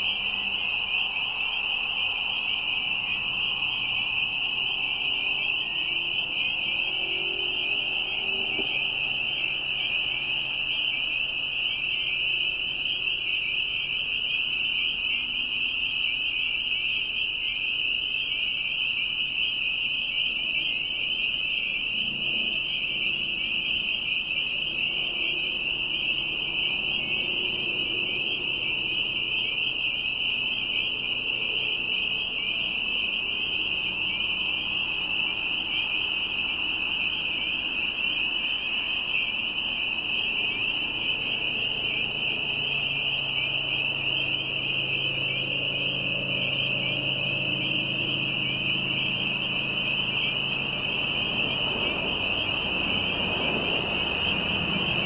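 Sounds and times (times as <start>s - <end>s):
spring peepers chorus: 0.0s - 55.0s.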